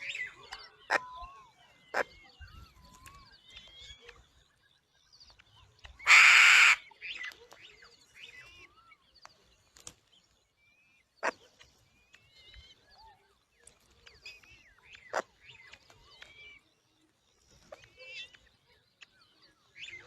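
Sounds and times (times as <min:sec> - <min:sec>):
birds chirping and whistling: 0:00.0 - 0:20.0.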